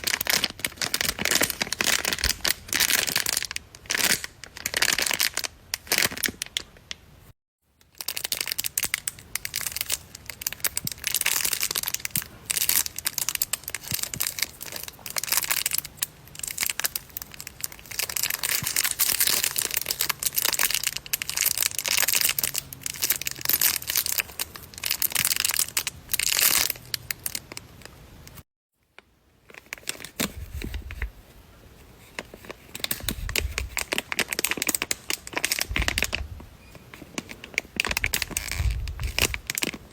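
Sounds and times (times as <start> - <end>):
paper crinkling when squeezed: 0.0 - 6.6, 8.0 - 28.0, 29.4 - 31.2, 31.8 - 39.9.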